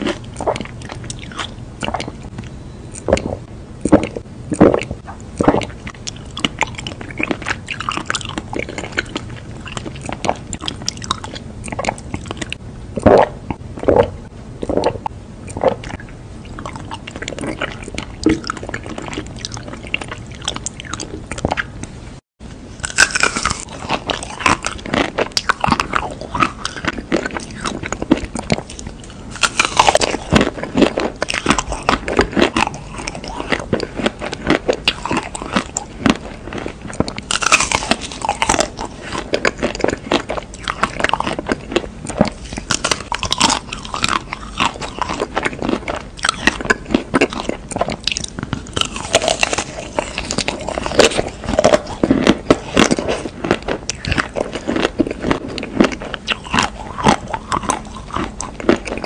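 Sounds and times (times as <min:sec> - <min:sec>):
chewing: 0:00.0 - 0:22.0, 0:22.8 - 0:59.0.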